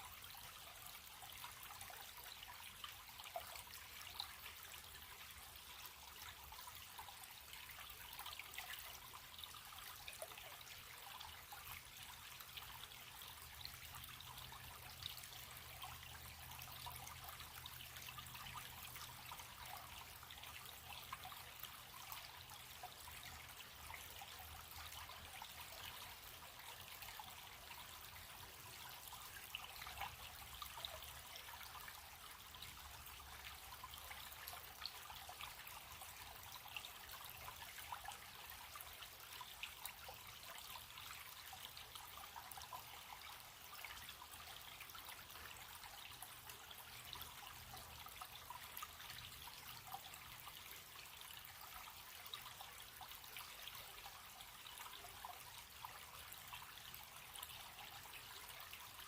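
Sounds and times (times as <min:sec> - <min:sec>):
small stream trickling: 0:00.0 - 0:59.0.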